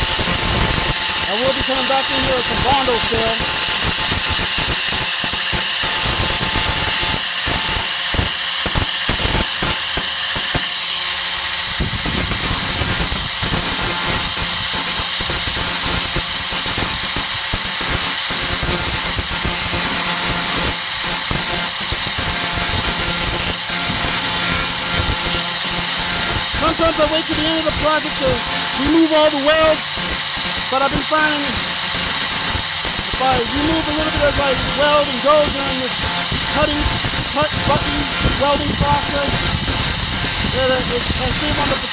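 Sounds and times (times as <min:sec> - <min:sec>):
angle grinder whining on steel: 0:00.0 - 0:41.9.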